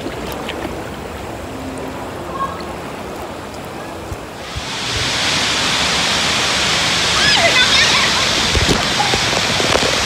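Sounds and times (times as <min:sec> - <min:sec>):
loud rush of water: 0:00.0 - 0:10.0
running water: 0:00.0 - 0:10.0.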